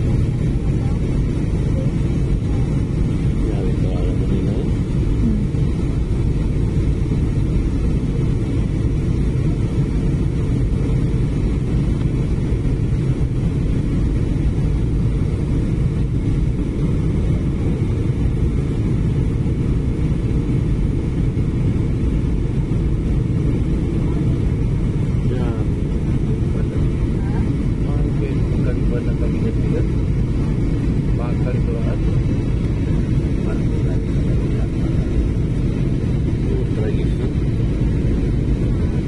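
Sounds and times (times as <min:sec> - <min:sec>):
airliner cabin engine rumble: 0:00.0 - 0:39.0.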